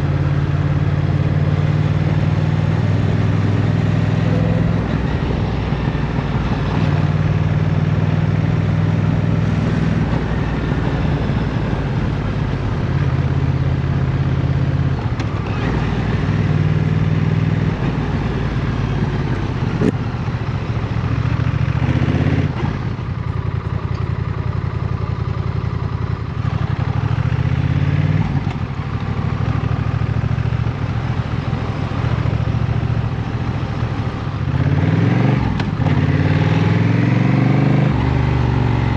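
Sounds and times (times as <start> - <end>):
motorcycle engine revving: 0.0 - 23.7, 24.4 - 38.9.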